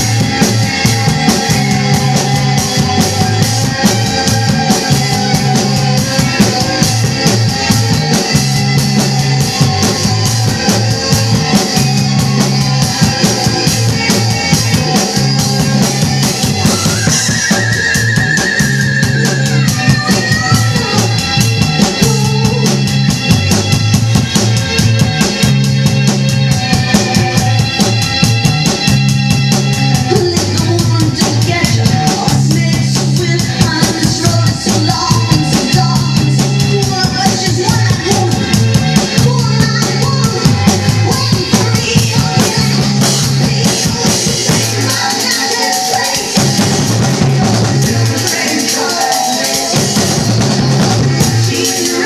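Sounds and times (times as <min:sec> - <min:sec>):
rock drum kit: 0:00.0 - 0:52.0
rock music recording: 0:00.0 - 0:52.0
wavering lead melody: 0:00.0 - 0:52.0.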